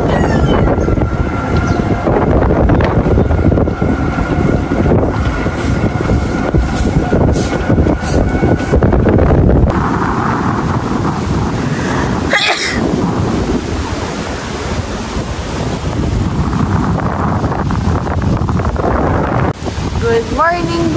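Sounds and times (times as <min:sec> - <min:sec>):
moving vehicle rumble: 0:00.0 - 0:20.9
wind buffeting microphone: 0:00.0 - 0:20.9.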